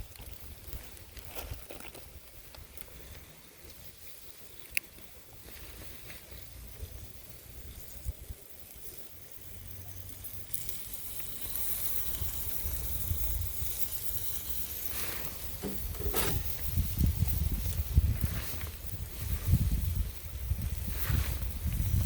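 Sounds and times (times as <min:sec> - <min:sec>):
food sizzling on griddle: 0:02.0 - 0:22.0.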